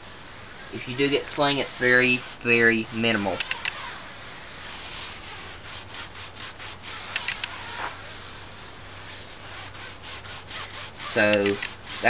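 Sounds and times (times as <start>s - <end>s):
foam pad scrubbing tire: 0.1s - 12.0s.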